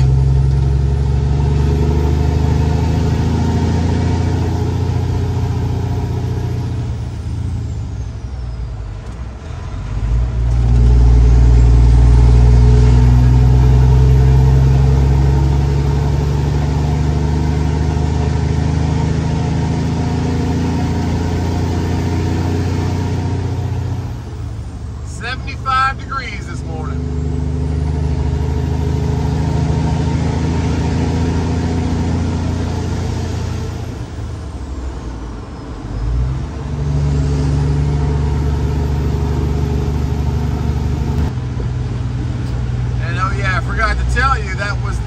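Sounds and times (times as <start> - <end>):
truck engine pulling a trailer: 0.0 - 45.0.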